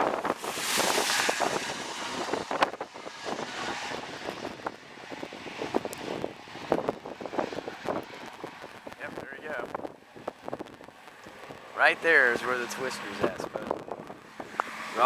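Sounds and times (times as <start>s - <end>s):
vehicle passing by: 0.0s - 8.9s, 11.8s - 15.0s
wind buffeting microphone: 0.0s - 15.0s.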